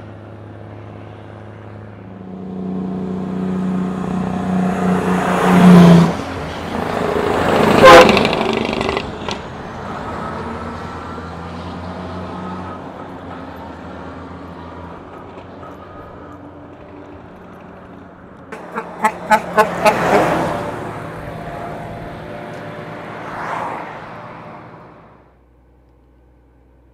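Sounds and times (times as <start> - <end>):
diesel truck engine pulling uphill: 0.0 - 26.9.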